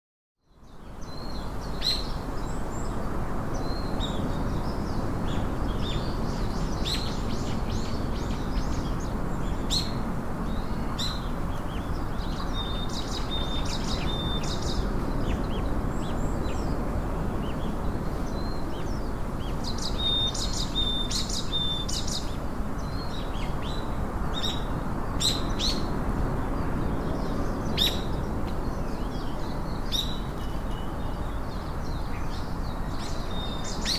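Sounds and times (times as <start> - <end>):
small birds chirping: 0.5 - 33.9.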